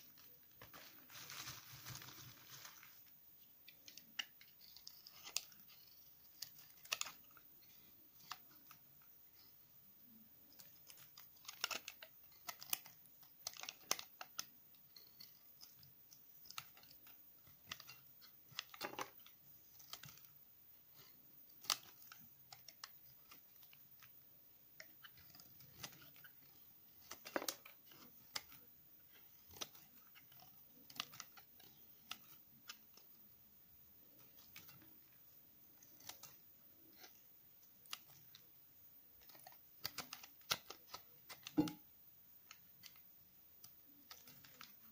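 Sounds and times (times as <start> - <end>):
knife cutting soap: 3.6 - 33.2, 34.0 - 38.4, 39.1 - 44.9.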